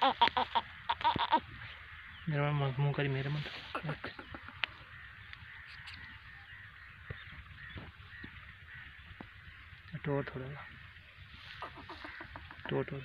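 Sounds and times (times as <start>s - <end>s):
distant fowl calling: 0.0s - 13.0s.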